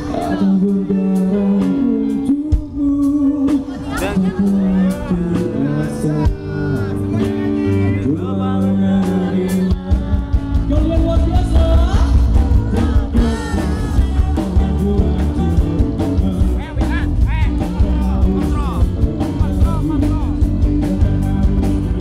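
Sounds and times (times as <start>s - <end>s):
live rock band playing: 0.0s - 22.0s
man singing lead: 0.0s - 22.0s.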